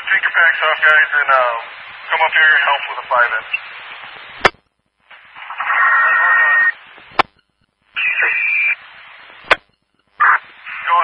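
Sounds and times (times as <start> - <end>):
radio transmissions with static hiss: 0.0 - 11.0.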